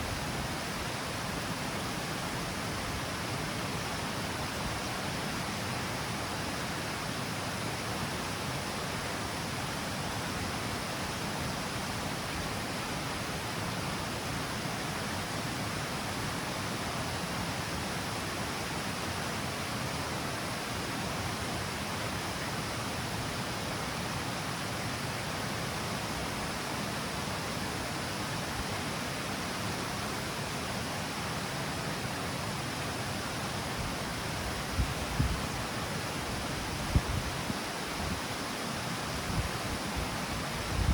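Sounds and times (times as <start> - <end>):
water rushing over cascade: 0.0 - 40.9.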